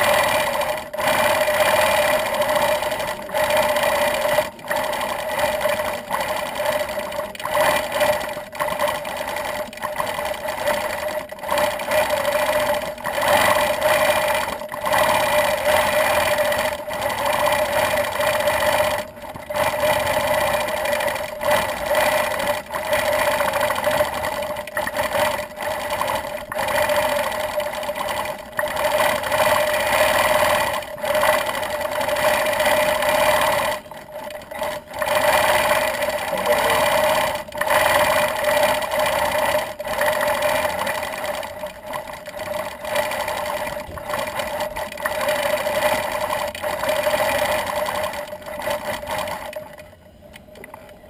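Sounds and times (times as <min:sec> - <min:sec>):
quilting machine stitching hum: 0:00.0 - 0:51.0.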